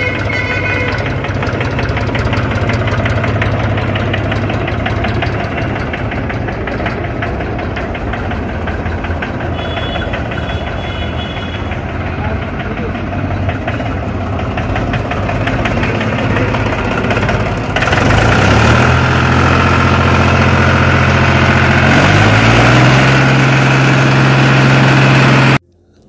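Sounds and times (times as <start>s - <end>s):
diesel tractor engine revving: 0.0s - 26.0s.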